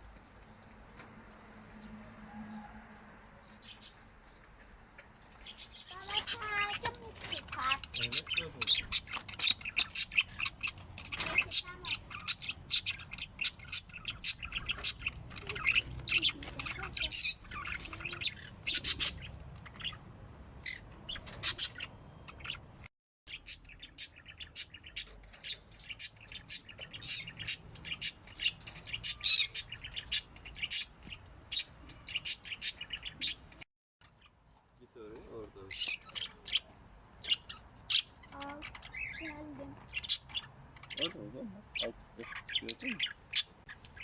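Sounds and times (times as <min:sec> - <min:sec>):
budgerigars chirping and twittering: 0:03.5 - 0:04.0, 0:04.6 - 0:44.0
cockatiels chirping and squawking: 0:05.4 - 0:20.0, 0:20.6 - 0:22.6, 0:23.3 - 0:34.3, 0:35.3 - 0:44.0.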